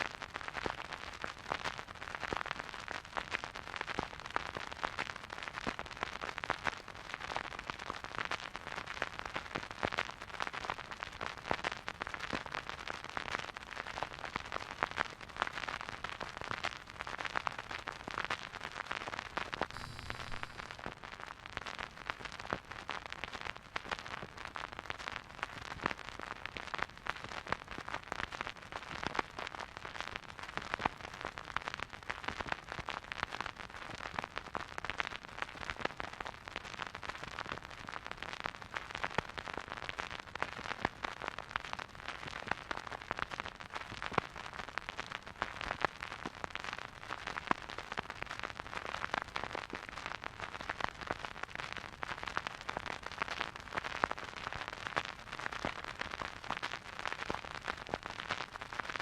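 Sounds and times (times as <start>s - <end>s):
vinyl crackles and pops: 0.0s - 59.0s
vinyl record hiss: 9.9s - 59.0s.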